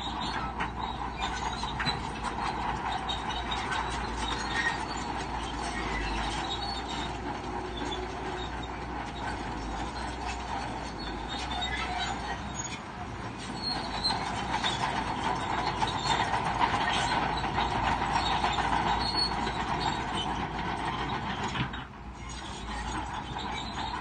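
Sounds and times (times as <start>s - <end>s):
bulldozer engine: 0.0s - 24.0s
bulldozer tracks squealing and rattling: 0.0s - 24.0s.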